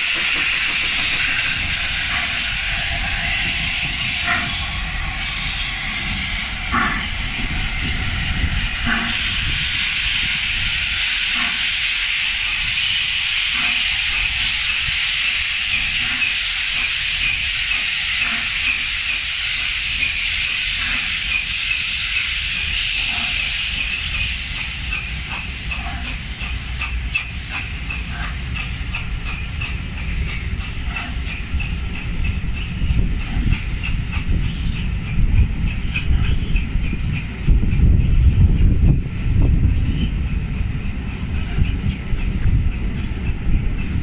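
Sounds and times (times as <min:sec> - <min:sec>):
steam locomotive hissing: 0:00.0 - 0:44.0
train wheels clicking over rail joints: 0:00.0 - 0:44.0.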